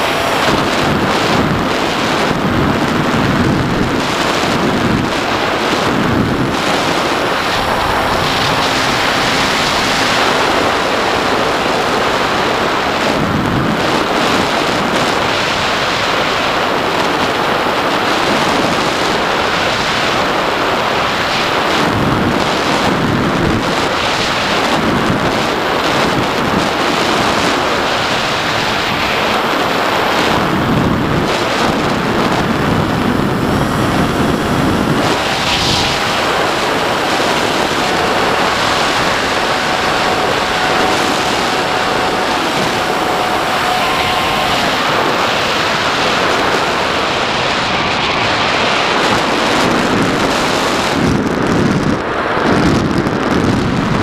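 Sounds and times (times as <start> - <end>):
model plane motor and propeller: 0.0 - 54.0
wind rushing over microphone: 0.0 - 54.0.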